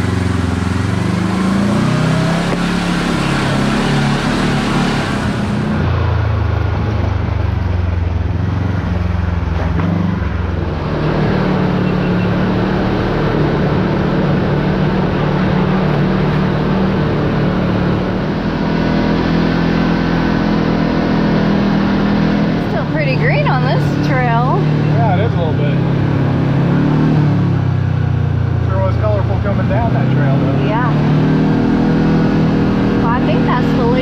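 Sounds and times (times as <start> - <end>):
engine running and revving: 0.0 - 34.0.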